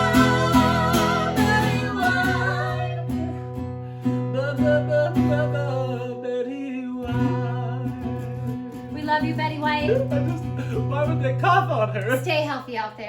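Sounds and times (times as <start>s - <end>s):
plucked string instrument music: 0.0s - 5.6s, 7.1s - 12.4s.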